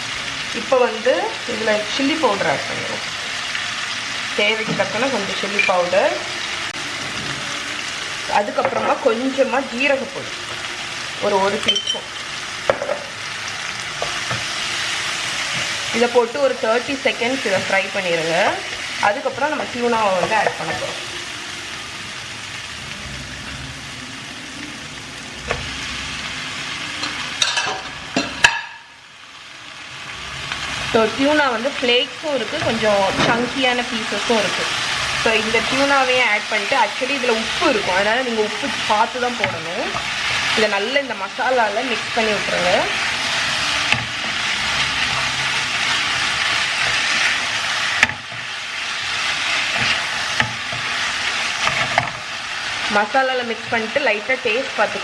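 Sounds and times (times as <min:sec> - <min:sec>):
masala sizzling in oil: 0:00.0 - 0:55.0.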